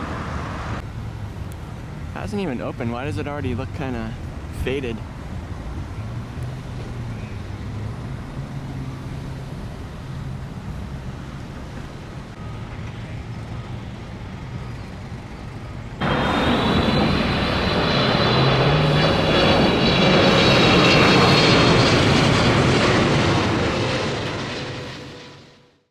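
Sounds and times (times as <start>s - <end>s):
jet engine with high whine: 0.0s - 25.9s.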